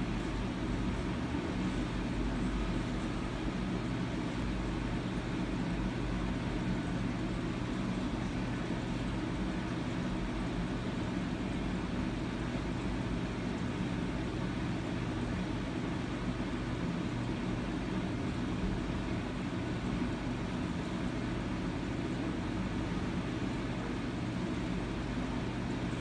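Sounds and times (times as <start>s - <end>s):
low rumble and hum: 0.0s - 26.0s.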